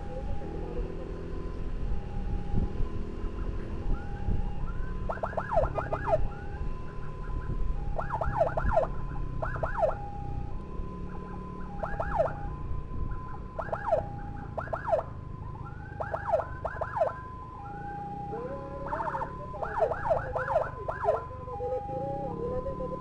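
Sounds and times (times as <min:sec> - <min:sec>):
motorcycle engines rumbling: 0:00.0 - 0:23.0
road noise: 0:00.0 - 0:23.0
siren chirps: 0:00.0 - 0:23.0
two-tone siren wail: 0:00.0 - 0:23.0.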